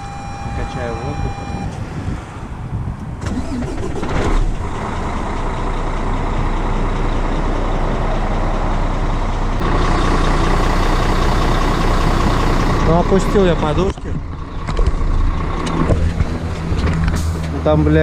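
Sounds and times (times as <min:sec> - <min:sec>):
diesel engine starting and idling: 0:03.0 - 0:18.0.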